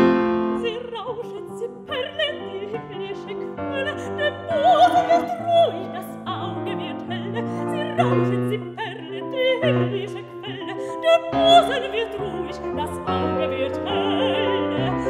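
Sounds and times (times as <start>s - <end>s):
grand piano chords: 0.0s - 15.0s
woman singing art song: 0.0s - 15.0s.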